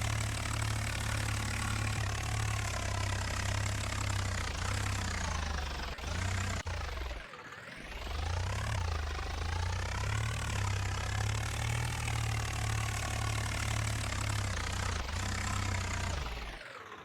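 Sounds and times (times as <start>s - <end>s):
tractor diesel engine running: 0.0s - 7.2s, 7.9s - 16.6s.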